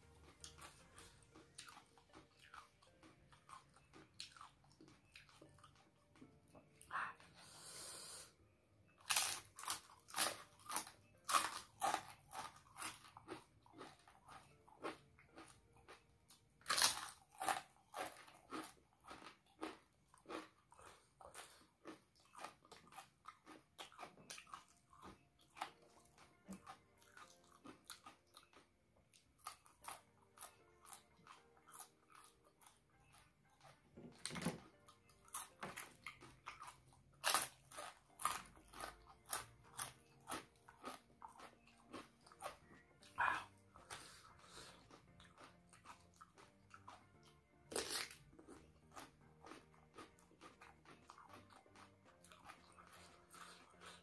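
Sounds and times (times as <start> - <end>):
crunching and chewing crackers: 0.0 - 7.8, 8.9 - 54.0.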